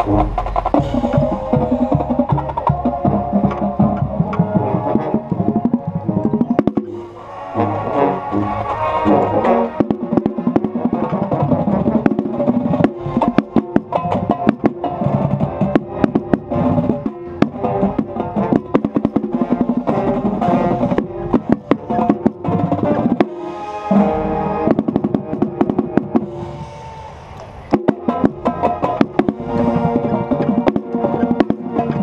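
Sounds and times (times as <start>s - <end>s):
drumline playing: 0.0s - 32.0s
wind instruments sustained tones: 0.0s - 32.0s.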